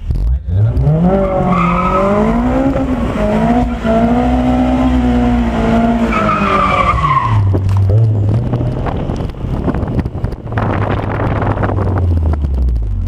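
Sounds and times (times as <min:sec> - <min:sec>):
car engine revving: 0:00.0 - 0:13.0
tires squealing: 0:00.7 - 0:11.8.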